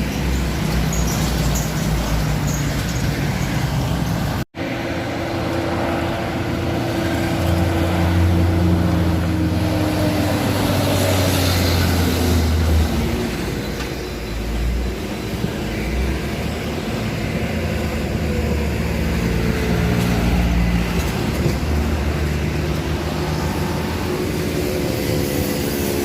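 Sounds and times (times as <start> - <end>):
truck engine labouring uphill: 0.0 - 26.0.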